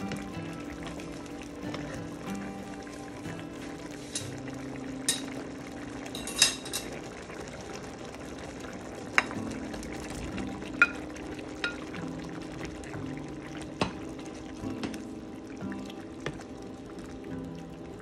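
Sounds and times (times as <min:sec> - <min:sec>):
wet churning of stew: 0:00.0 - 0:18.0.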